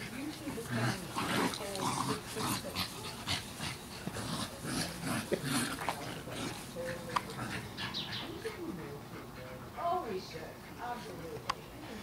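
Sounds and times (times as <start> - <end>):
dogs huffing and snuffling: 0.0 - 12.0.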